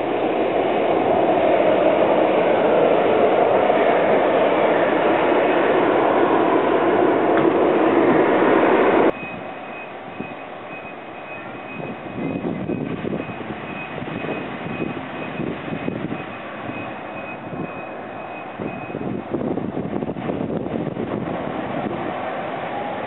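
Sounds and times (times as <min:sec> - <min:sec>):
faint high whine: 0:00.0 - 0:19.3
distant airliner jet engines: 0:00.0 - 0:23.0
loud jet engine noise: 0:00.0 - 0:23.0.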